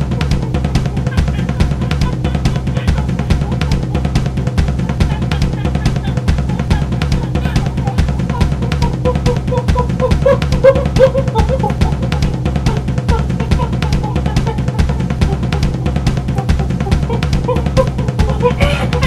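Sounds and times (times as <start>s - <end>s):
fast drum beat music: 0.0s - 19.0s.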